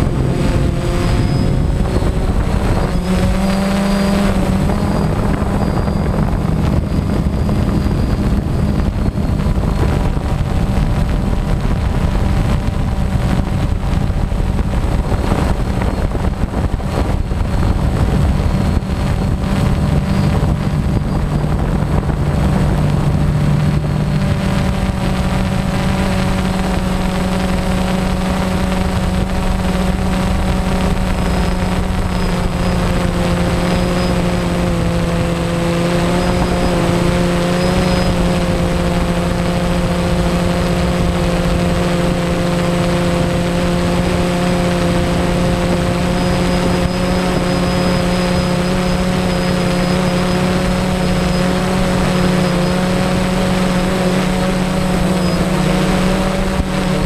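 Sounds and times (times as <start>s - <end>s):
drone propellers humming: 0.0s - 57.0s
wind buffeting microphone: 0.0s - 57.0s.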